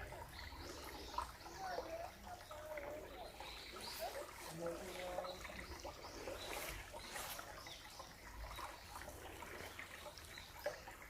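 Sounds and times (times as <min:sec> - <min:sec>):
faint bird chirps: 0:00.0 - 0:11.0
stream trickling: 0:00.0 - 0:11.0.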